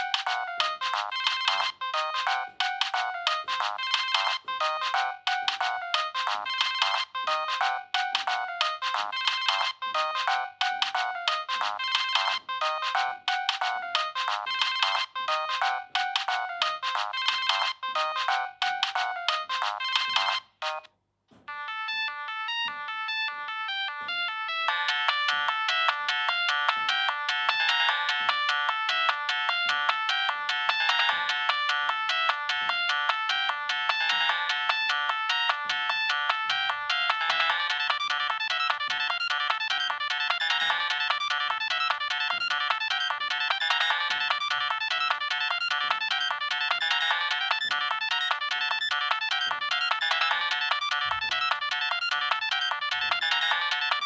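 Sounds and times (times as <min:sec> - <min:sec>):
polyphonic phone ringtone: 0:00.0 - 0:54.0.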